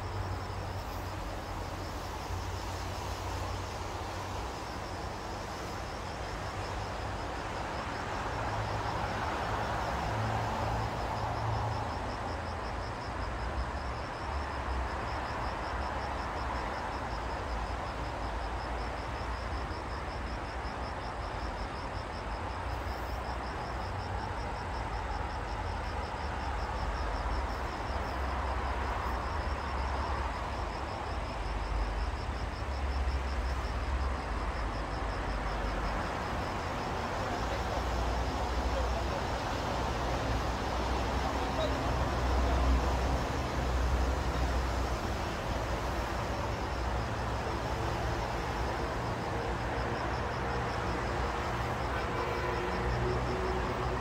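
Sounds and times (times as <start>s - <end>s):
open-air noise wash: 0.0s - 54.0s.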